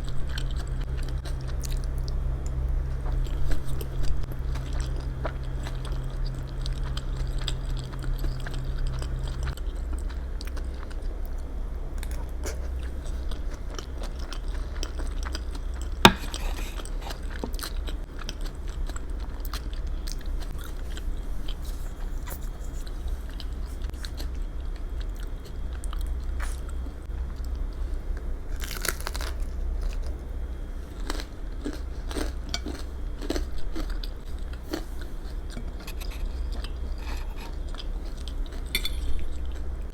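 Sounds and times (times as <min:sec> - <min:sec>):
steady low hum: 0:00.0 - 0:39.9
chewing and biting: 0:00.1 - 0:11.4, 0:12.0 - 0:27.6, 0:31.0 - 0:39.7.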